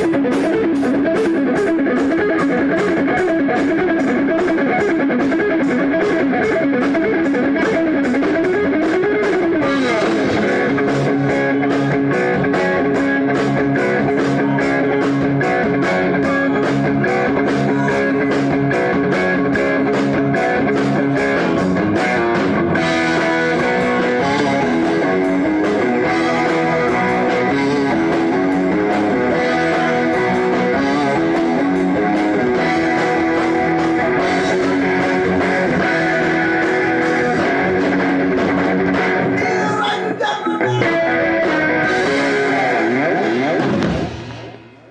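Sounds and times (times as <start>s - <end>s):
electric guitar: 0.0s - 44.9s
rock band playing live: 0.0s - 44.9s.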